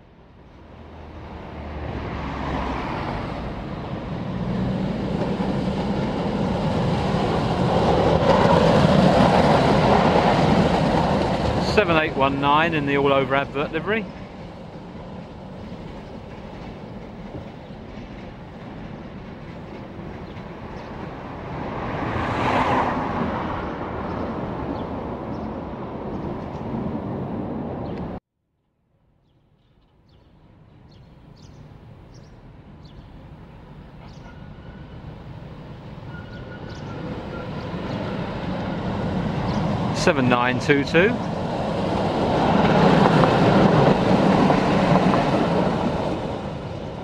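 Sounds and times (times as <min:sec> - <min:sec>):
tram running on track: 0:00.0 - 0:28.2, 0:30.4 - 0:47.0.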